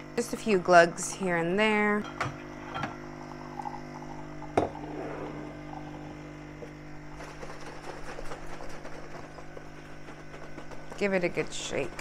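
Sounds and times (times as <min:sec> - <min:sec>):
coffee machine humming: 0:00.0 - 0:12.0.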